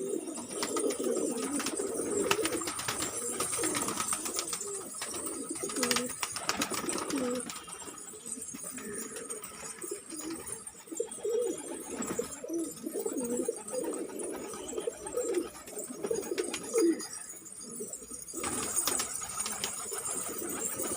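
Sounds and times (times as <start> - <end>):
pigeon cooing: 0.0 - 20.9.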